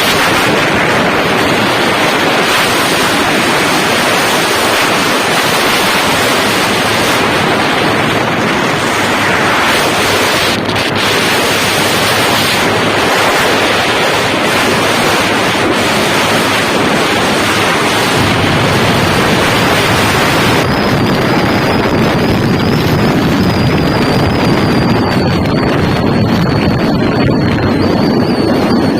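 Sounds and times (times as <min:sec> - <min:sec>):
motorcycle engine: 0:00.0 - 0:28.8
faint high whine: 0:00.0 - 0:28.9
wind buffeting microphone: 0:00.0 - 0:28.9.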